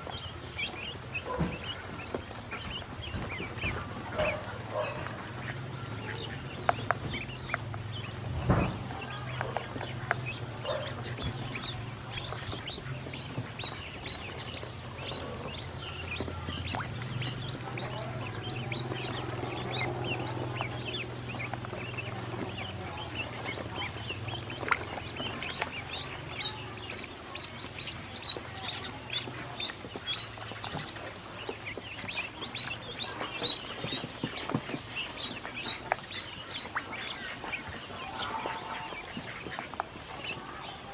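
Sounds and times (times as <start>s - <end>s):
ducklings peeping: 0.0s - 40.9s.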